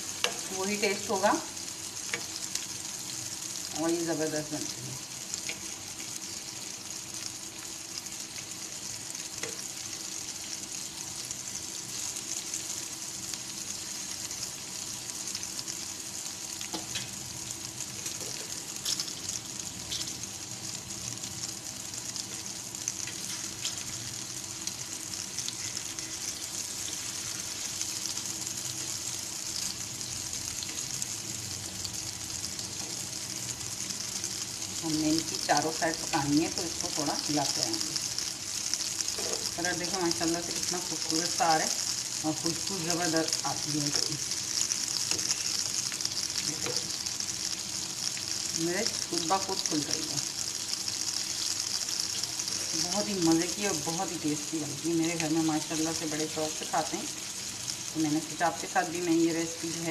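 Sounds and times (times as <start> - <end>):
chillies sizzling in oil: 0.0 - 59.9.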